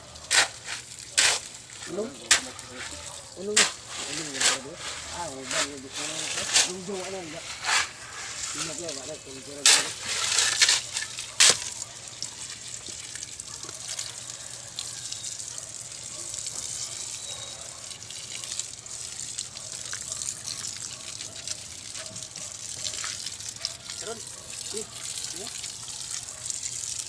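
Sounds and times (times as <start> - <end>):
water gushing and trickling: 0.0 - 27.0.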